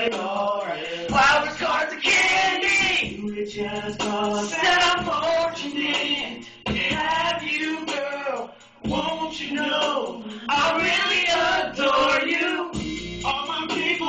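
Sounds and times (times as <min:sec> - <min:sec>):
song with singer: 0:00.0 - 0:14.0.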